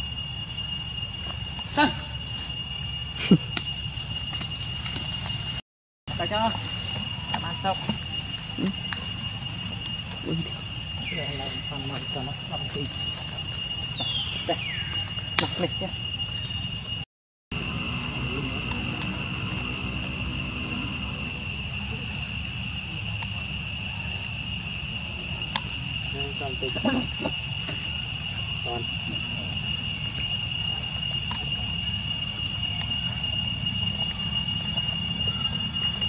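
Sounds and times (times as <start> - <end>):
high-pitched insect chorus: 0.0 - 36.0.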